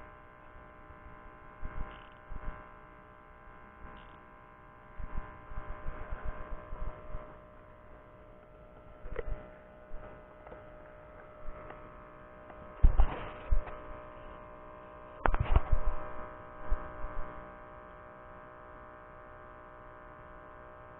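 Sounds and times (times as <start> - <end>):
buzzy electrical hum: 0.0 - 20.9.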